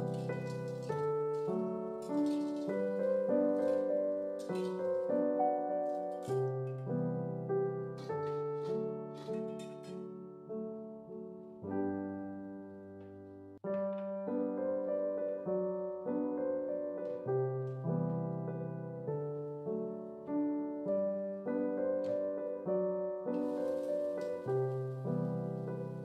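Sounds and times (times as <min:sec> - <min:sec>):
soft solo piano music: 0:00.0 - 0:26.0.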